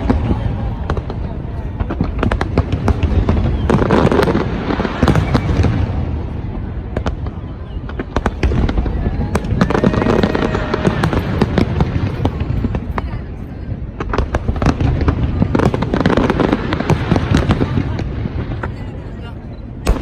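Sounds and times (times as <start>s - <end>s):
fireworks crackling and banging: 0.0s - 20.0s.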